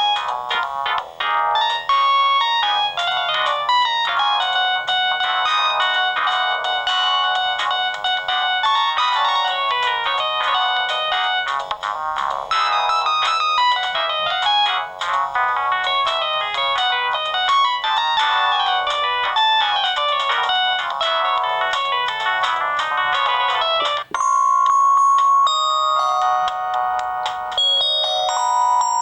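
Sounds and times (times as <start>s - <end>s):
mobile phone ringtone melody: 0.0s - 29.0s.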